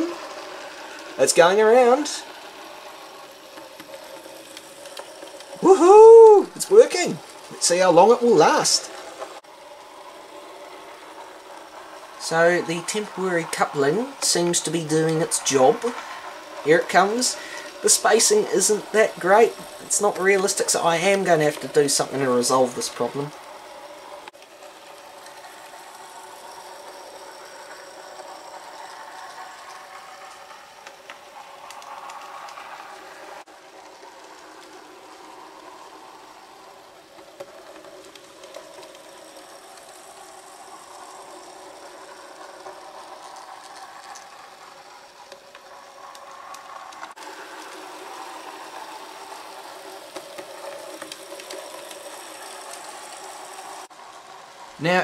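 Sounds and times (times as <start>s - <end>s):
model train whirring and rattling: 0.0s - 55.0s.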